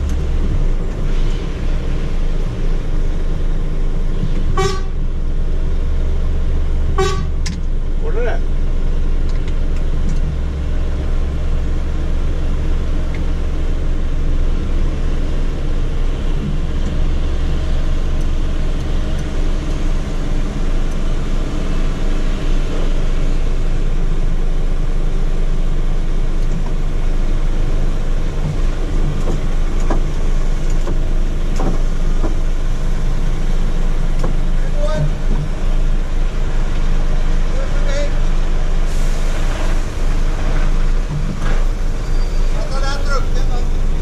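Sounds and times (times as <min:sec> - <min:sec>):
truck diesel engine drone: 0:00.0 - 0:44.0.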